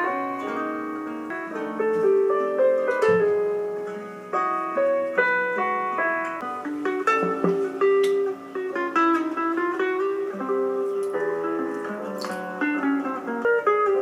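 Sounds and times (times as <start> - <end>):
light plucked melody: 0.0 - 14.0.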